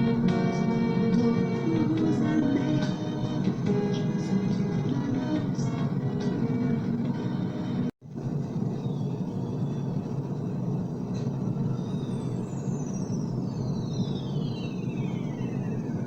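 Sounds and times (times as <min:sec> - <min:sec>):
low rumbling tape noise: 0:00.0 - 0:16.0.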